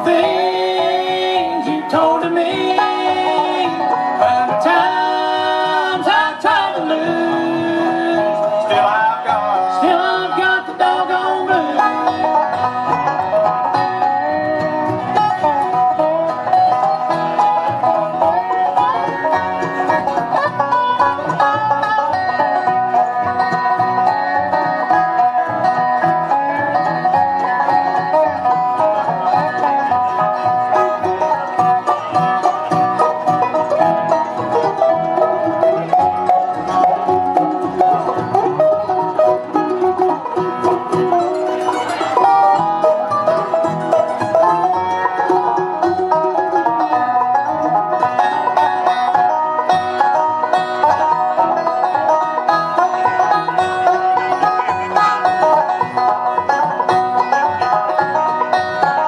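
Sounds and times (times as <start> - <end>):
banjo picking: 0.0 - 59.0
bluegrass band playing: 0.0 - 59.0.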